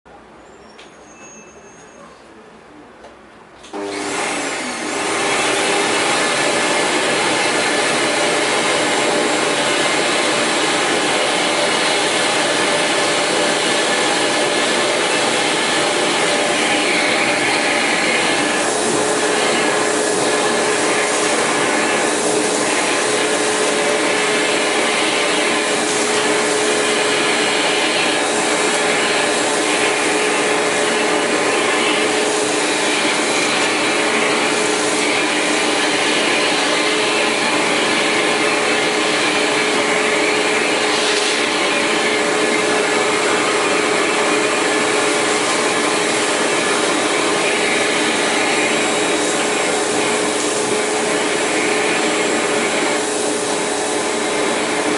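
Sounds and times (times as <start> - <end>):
vacuum cleaner running: 3.6 - 54.9.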